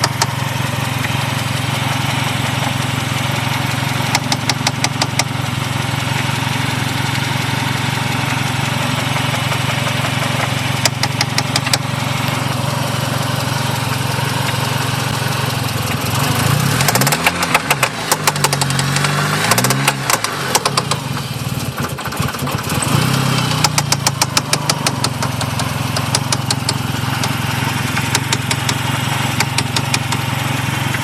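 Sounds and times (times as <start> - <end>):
car engine idling with knock: 0.0 - 31.0
engine revving: 0.0 - 31.0.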